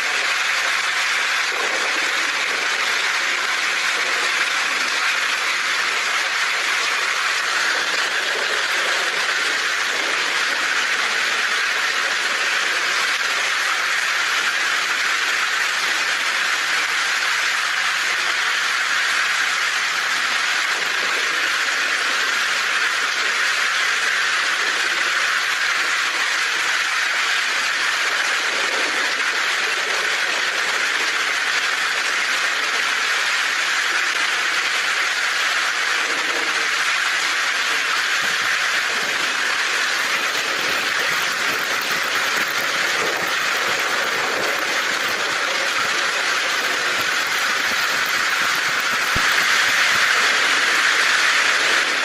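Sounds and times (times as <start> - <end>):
heavy rain on a tin roof: 0.0 - 52.0.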